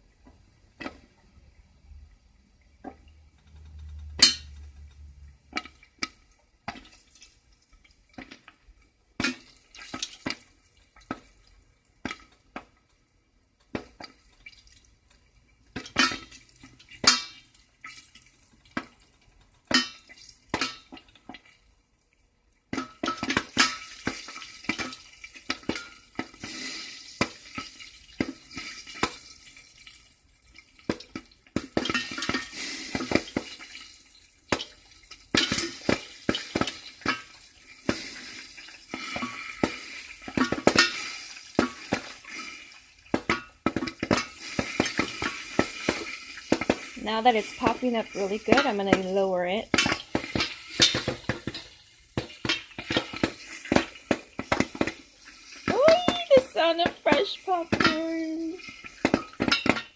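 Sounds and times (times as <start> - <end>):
oil sizzling: 0.0 - 59.9
popcorn popping: 2.8 - 7.3, 8.1 - 15.0, 15.6 - 21.5, 22.7 - 29.8, 30.7 - 59.9.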